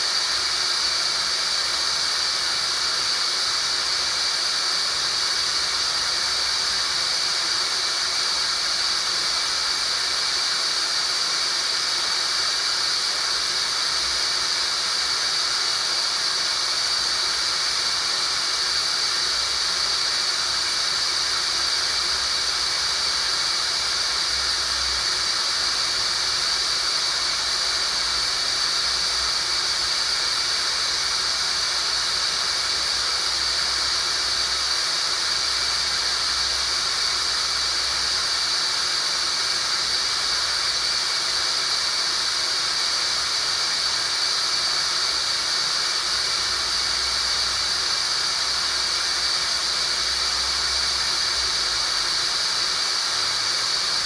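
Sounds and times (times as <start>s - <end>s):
steady high-pitched synthetic hiss: 0.0s - 54.0s.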